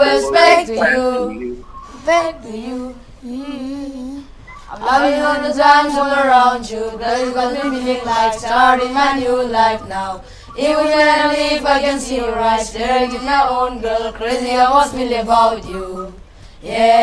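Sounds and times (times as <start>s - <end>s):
person singing wordless melody: 0.0s - 17.0s
voices singing in harmony: 0.0s - 17.0s.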